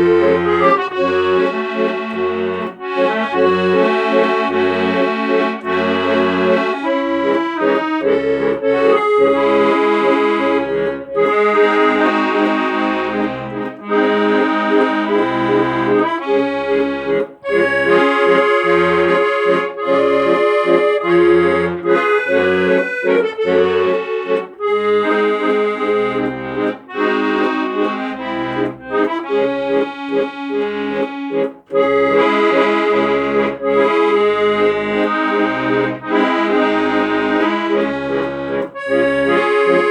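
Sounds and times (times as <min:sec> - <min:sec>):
accordion music: 0:00.0 - 0:39.9.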